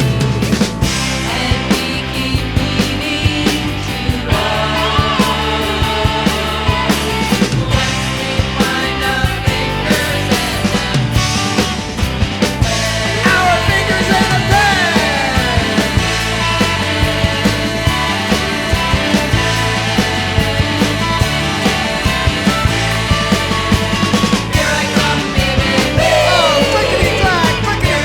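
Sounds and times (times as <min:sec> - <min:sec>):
instrumental rock band music: 0:00.0 - 0:28.0.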